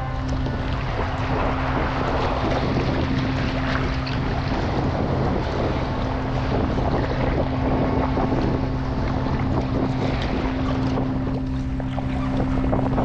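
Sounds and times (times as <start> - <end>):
steady low hum: 0.0 - 13.0
water splashing: 0.0 - 13.0
wind buffeting microphone: 0.0 - 13.0.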